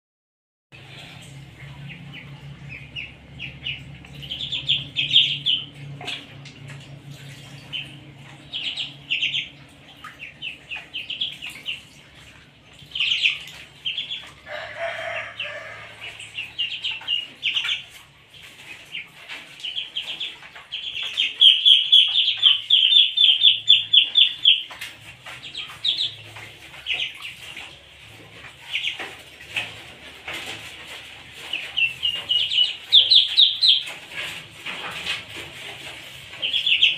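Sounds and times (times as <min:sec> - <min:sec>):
ducklings peeping: 0:00.8 - 0:36.9.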